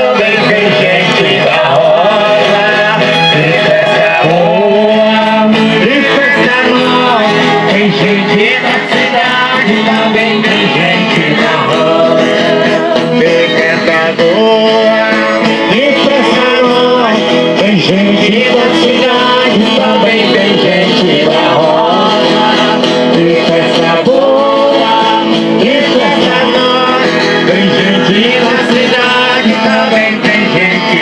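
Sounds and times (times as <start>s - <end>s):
voices singing along: 0.0s - 31.0s.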